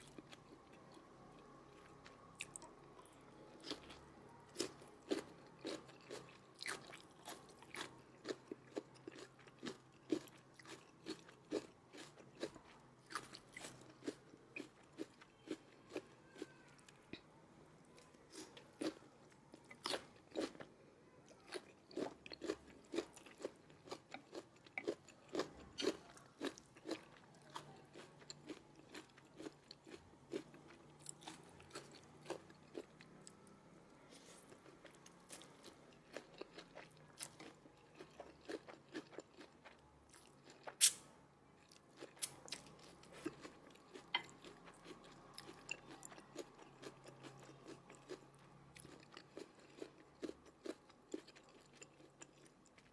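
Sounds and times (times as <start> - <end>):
person chewing and biting: 4.6 - 16.5, 19.6 - 20.7, 21.4 - 33.4, 34.2 - 41.0, 41.6 - 48.2, 48.8 - 52.9.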